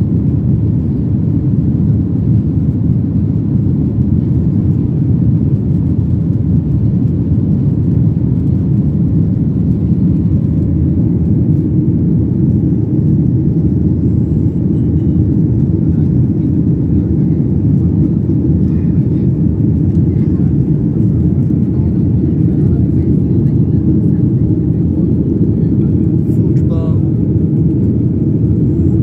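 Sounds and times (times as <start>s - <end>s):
jet cabin engine roar: 0.0s - 29.0s.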